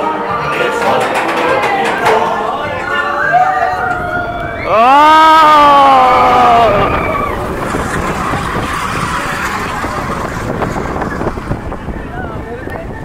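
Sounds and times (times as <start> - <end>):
roller coaster rumbling and rattling: 0.0 - 13.0
wind rushing over microphone: 1.0 - 13.0.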